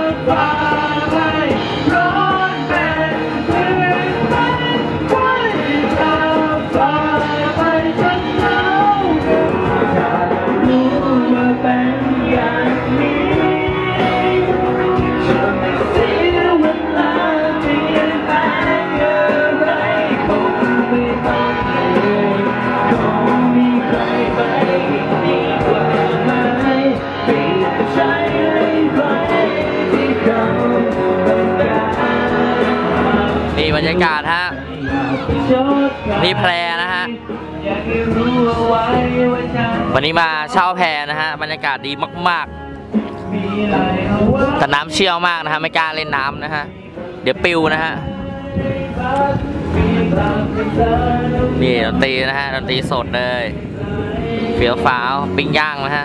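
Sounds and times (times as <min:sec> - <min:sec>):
live rock band playing: 0:00.0 - 0:56.0
man singing into a microphone: 0:00.0 - 0:56.0.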